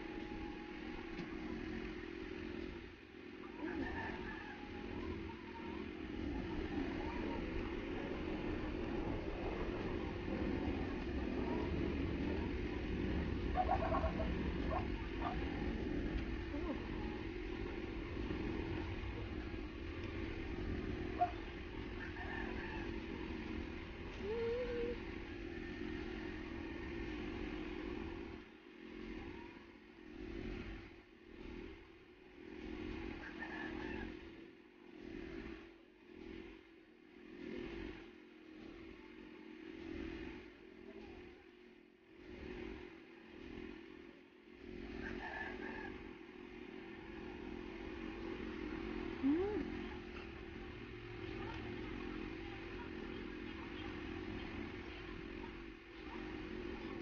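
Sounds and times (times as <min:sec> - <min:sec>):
motor vehicle engine running: 0:00.0 - 0:57.0.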